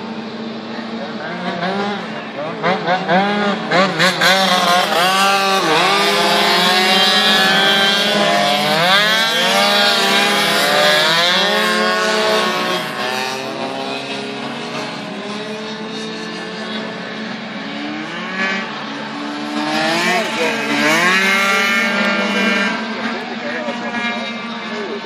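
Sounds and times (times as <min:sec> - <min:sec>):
racing scooters revving: 0:00.0 - 0:25.0.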